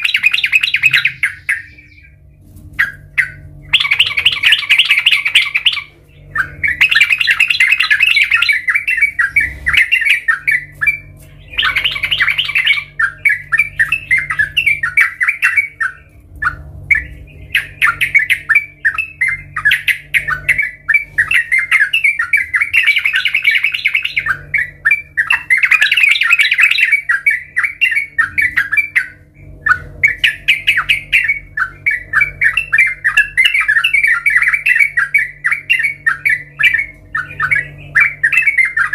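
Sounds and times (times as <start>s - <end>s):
bulbul chattering song: 0.0s - 38.9s.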